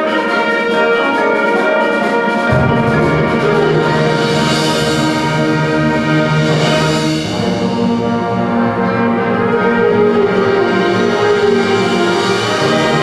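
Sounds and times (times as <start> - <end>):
concert band playing chords: 2.5 - 13.0.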